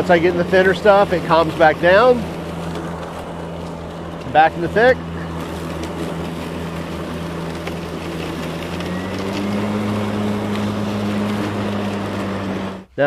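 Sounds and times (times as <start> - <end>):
lawn mower motor humming: 0.0 - 13.0.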